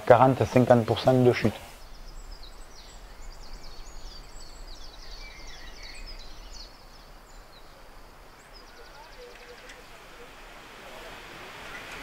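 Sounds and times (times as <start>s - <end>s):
low outdoor background noise: 0.0s - 12.0s
small birds chirping: 0.0s - 12.0s.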